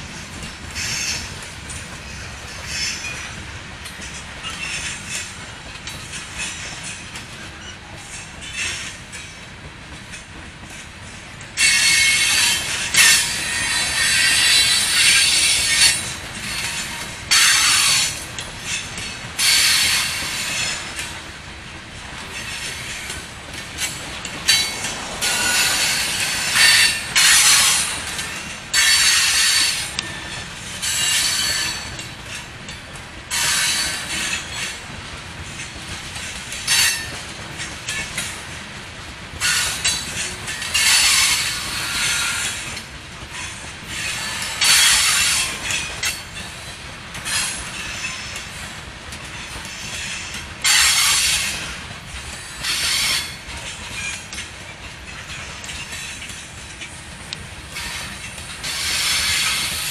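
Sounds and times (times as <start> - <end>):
wheels squealing on rail: 0.0 - 9.4, 10.2 - 21.4, 22.1 - 38.6, 39.3 - 57.0, 57.6 - 59.9
train cars rolling: 0.0 - 59.9.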